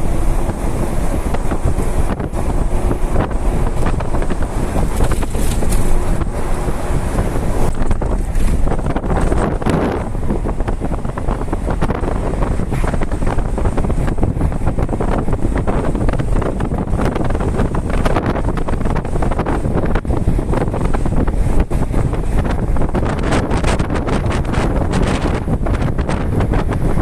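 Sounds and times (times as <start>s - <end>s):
low road noise: 0.0s - 27.0s
wind buffeting microphone: 0.0s - 27.0s.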